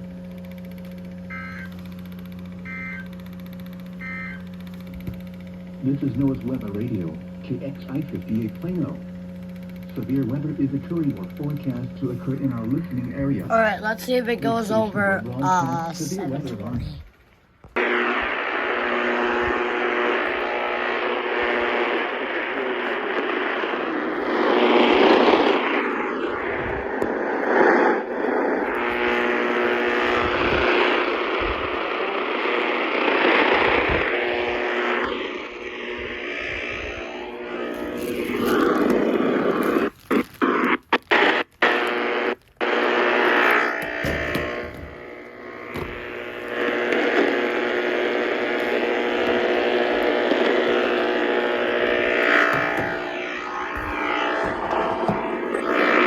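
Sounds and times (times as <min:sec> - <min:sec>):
faint steady tones: 0:00.0 - 0:56.0
radio static hissing: 0:01.1 - 0:56.0.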